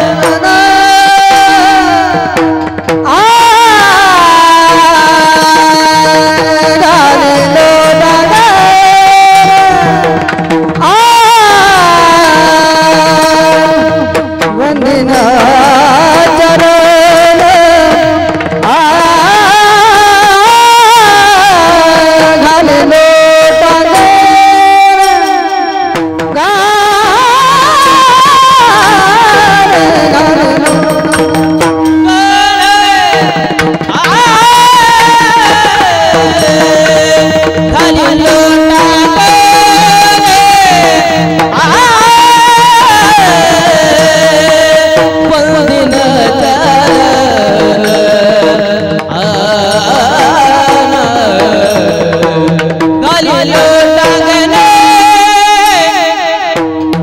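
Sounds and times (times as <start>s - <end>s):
person singing devotional song: 0.0s - 57.0s
tabla: 0.0s - 57.0s.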